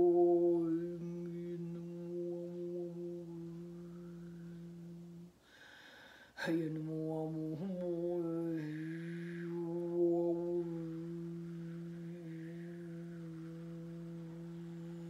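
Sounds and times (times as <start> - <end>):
woman humming low note: 0.0 - 5.4, 6.4 - 15.0.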